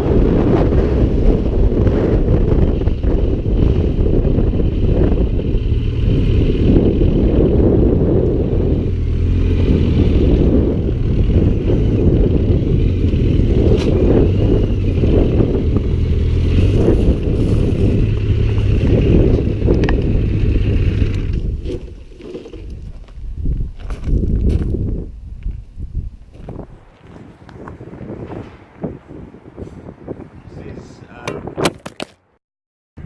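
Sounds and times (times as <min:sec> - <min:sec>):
motorcycle engine drone: 0:00.0 - 0:23.4, 0:26.4 - 0:30.6
wind buffeting microphone: 0:00.0 - 0:31.8.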